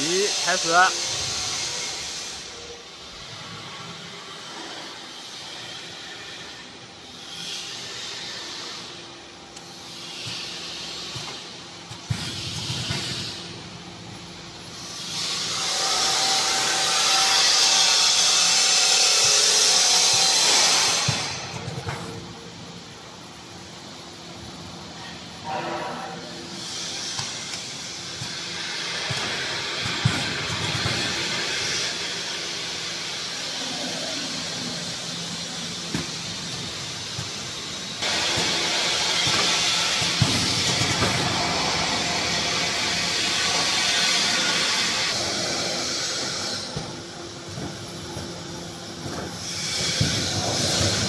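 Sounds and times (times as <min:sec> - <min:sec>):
packing machine hissing: 0:00.0 - 0:51.0.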